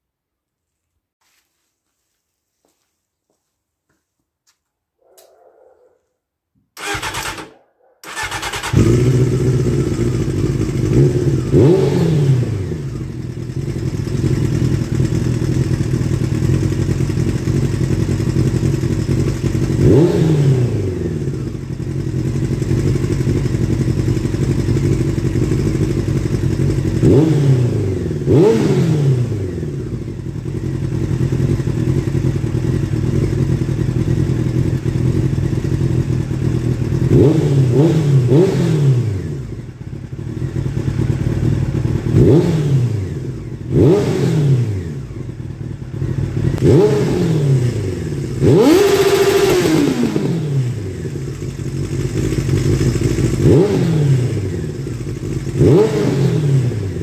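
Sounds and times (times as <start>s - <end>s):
motorcycle engine idling and revving: 6.8s - 57.0s.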